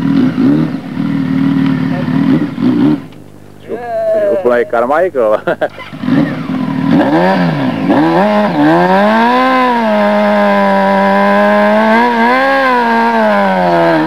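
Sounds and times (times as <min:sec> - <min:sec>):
motorcycle engine revving: 0:00.0 - 0:03.6, 0:05.4 - 0:14.0.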